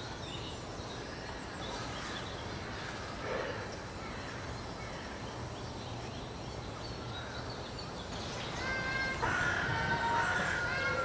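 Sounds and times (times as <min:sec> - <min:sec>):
birds calling: 0:00.0 - 0:11.0
outdoor background noise: 0:00.0 - 0:11.0.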